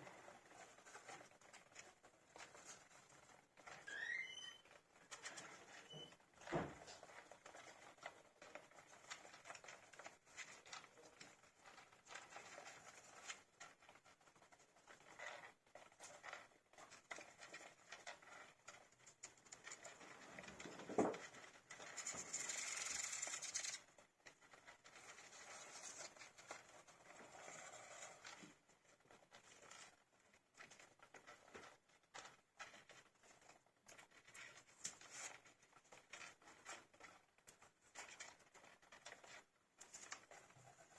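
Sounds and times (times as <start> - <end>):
hamsters scrabbling and rustling: 0.0 - 40.9.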